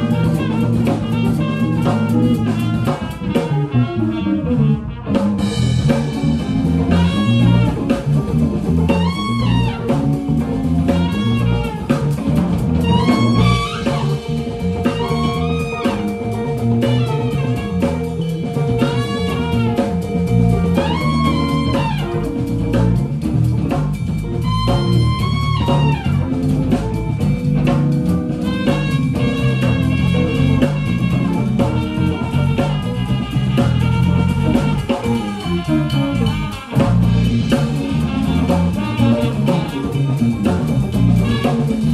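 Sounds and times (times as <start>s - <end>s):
drum kit: 0.0s - 41.9s
guitar: 0.0s - 41.9s
swooping lead melody: 0.0s - 41.9s.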